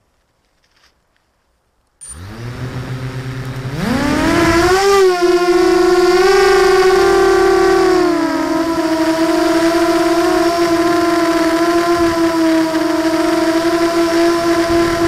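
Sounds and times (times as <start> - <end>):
quadcopter motors whining: 2.0 - 15.0.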